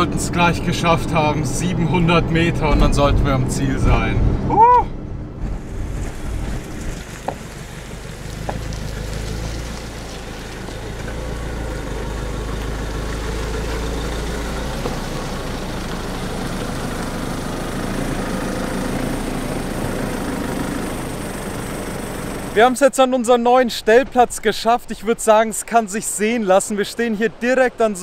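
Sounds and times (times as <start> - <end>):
motorhome engine humming: 0.0 - 28.0.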